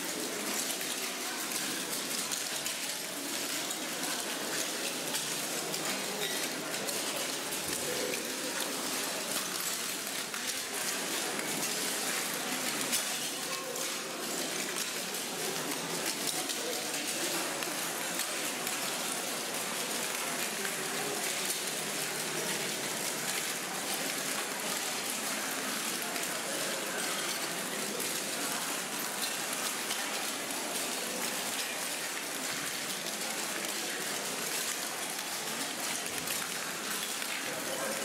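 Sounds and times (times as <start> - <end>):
murmur of voices: 0.0 - 38.0.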